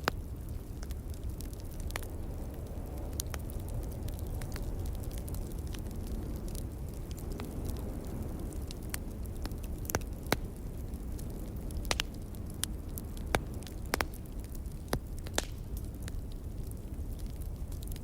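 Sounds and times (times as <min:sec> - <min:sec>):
burning logs crackling: 0:00.0 - 0:18.0
low steady rumble: 0:00.0 - 0:18.0.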